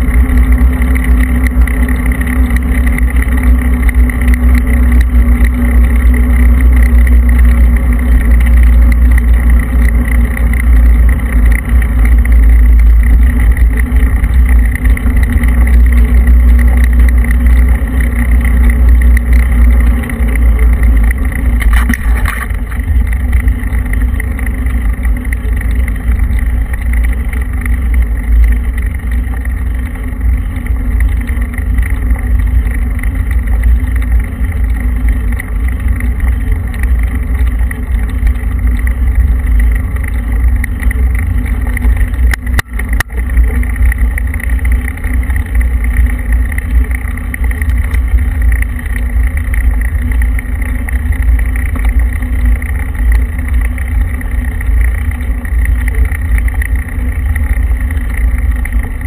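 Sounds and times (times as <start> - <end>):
vehicle road rumble: 0.0 - 59.0.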